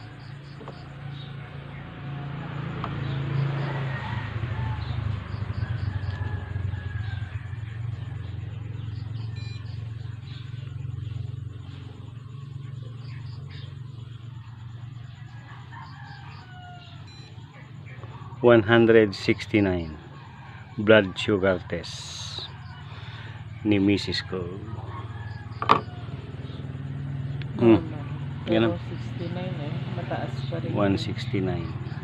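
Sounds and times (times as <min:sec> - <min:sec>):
birds chirping: 0:00.0 - 0:32.0
motor vehicle engine running: 0:00.0 - 0:32.0.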